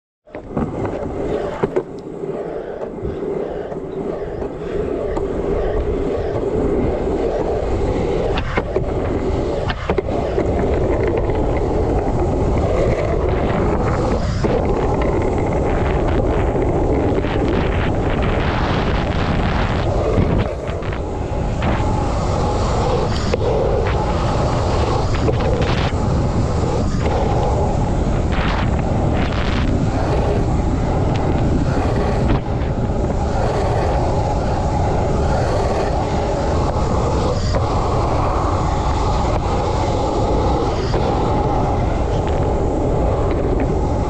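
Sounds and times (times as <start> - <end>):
skateboard wheels rolling on concrete: 0.2 - 44.0
skateboard wheels clacking over cracks: 0.3 - 44.0.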